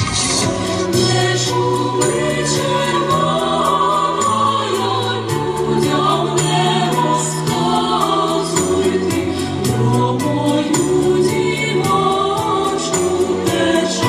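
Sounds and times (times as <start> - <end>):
instrumental backing with beat: 0.0 - 14.0
choir singing: 0.1 - 14.0.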